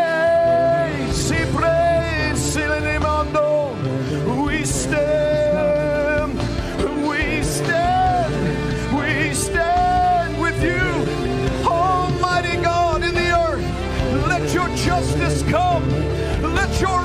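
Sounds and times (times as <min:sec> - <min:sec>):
instrumental backing: 0:00.0 - 0:17.0.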